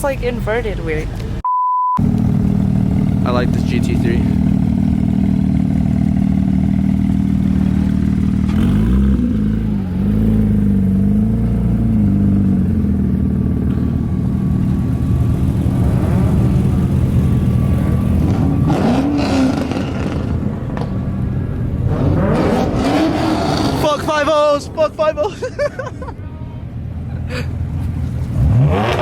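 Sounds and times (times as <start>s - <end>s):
car engine idling and revving: 0.0s - 1.4s, 2.0s - 29.0s.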